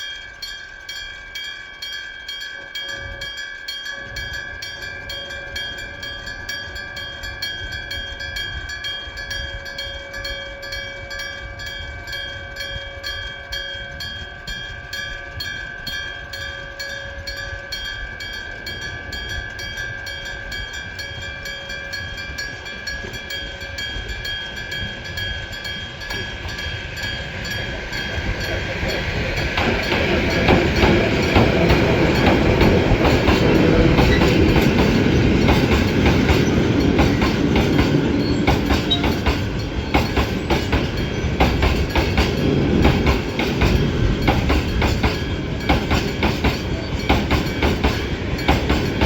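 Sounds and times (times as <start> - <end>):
level crossing alarm bell ringing: 0.0 - 49.0
train rumbling: 0.0 - 49.0.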